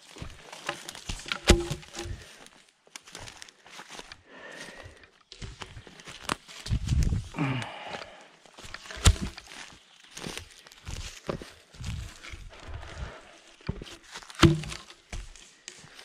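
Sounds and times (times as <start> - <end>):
footsteps on forest floor: 0.0 - 16.0.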